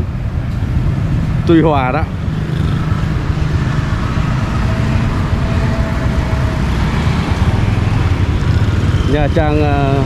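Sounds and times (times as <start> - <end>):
street traffic engine rumble: 0.0 - 10.0.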